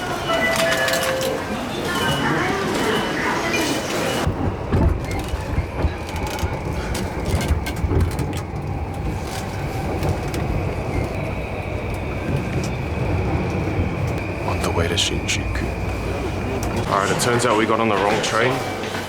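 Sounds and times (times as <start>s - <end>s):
train rumbling on tracks: 0.0s - 19.0s.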